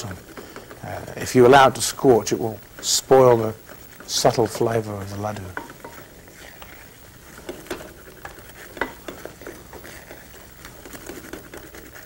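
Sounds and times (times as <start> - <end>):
butter sizzling: 0.0 - 12.0
wooden spoon scraping a pan: 0.0 - 12.0.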